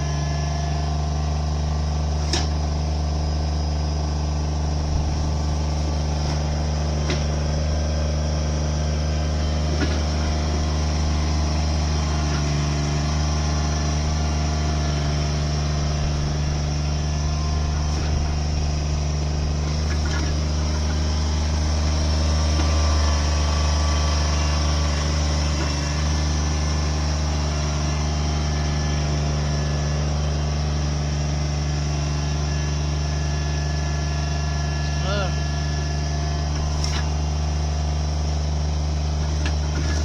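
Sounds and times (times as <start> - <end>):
machine engine droning: 0.0 - 40.0.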